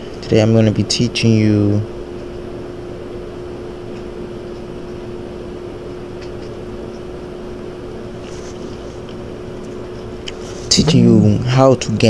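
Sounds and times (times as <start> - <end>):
constant hum tone: 0.0 - 12.0.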